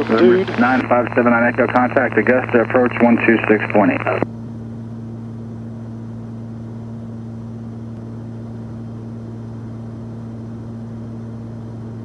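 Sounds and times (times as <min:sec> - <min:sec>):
aircraft engines droning in cabin: 0:00.0 - 0:12.0.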